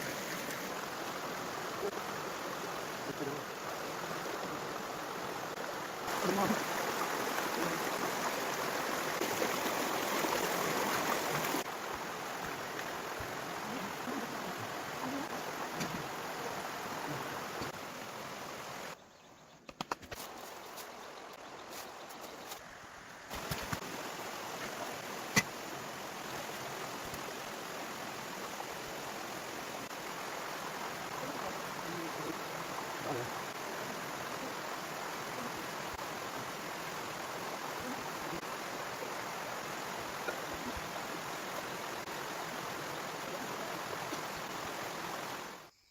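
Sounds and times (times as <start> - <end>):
running water rushing: 0.0 - 19.0, 20.3 - 45.7.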